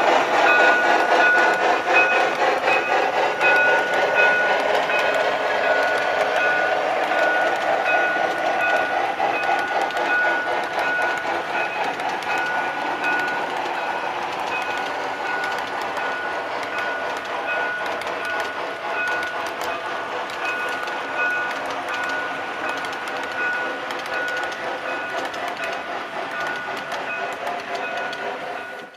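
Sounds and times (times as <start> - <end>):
model train rumbling: 0.0 - 28.9.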